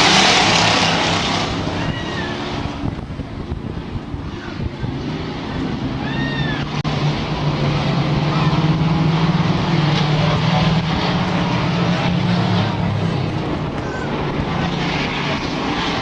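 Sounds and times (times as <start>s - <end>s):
race truck engines droning: 0.0s - 16.0s.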